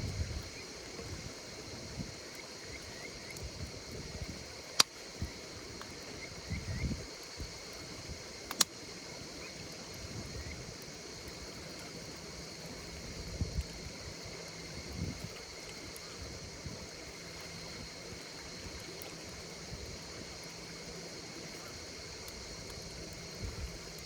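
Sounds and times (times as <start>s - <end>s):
campfire crackling: 0.0s - 24.0s
insects chirping: 0.0s - 24.0s.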